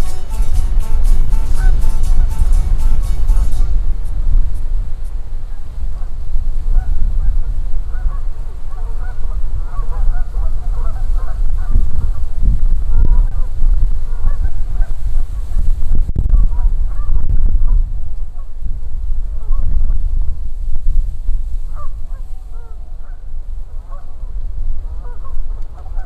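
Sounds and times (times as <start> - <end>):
swans honking: 0.0 - 15.6, 16.4 - 19.9, 21.6 - 26.0
steady low rumble: 0.0 - 26.0.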